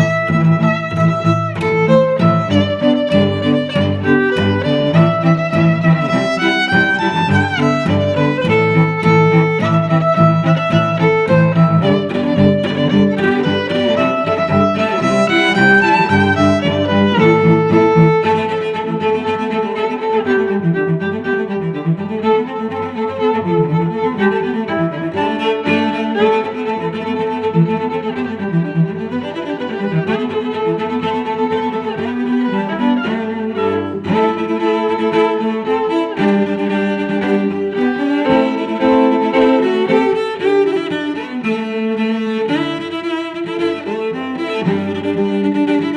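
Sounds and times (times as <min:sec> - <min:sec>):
violin and cello music: 0:00.0 - 0:45.9.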